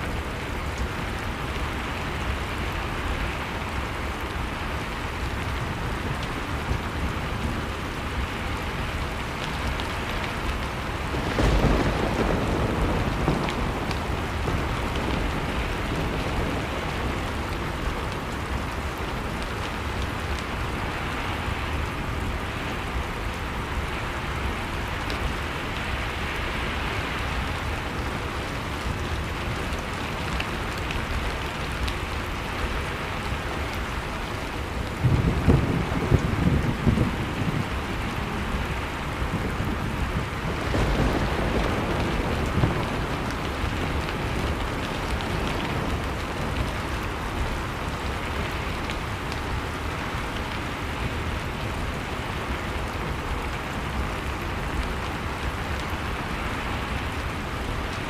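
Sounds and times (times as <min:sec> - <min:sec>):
fire crackling: 0:00.0 - 0:58.0
rushing wind: 0:00.0 - 0:58.0.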